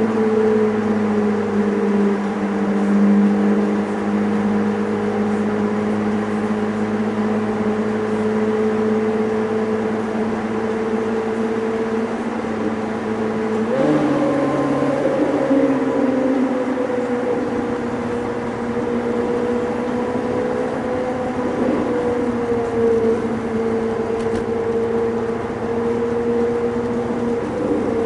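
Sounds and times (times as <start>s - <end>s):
car engine droning: 0.0s - 28.0s.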